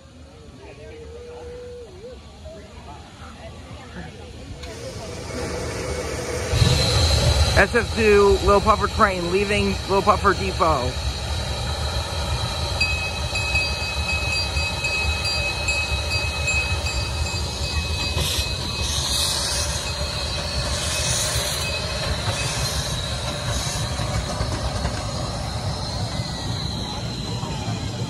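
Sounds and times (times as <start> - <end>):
steam locomotive rumble: 0.0 - 28.0
steam hissing bursts: 4.6 - 28.0
high squeal: 5.4 - 28.0.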